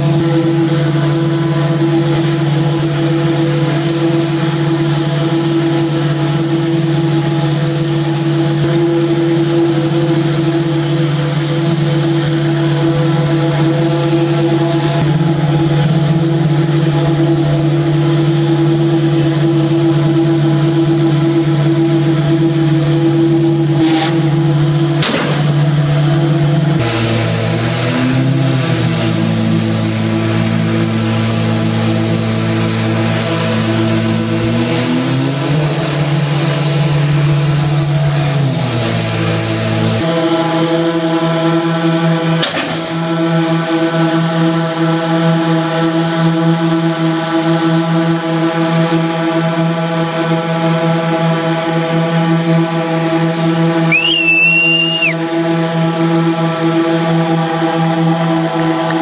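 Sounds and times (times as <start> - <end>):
machinery engine droning: 0.0 - 59.0.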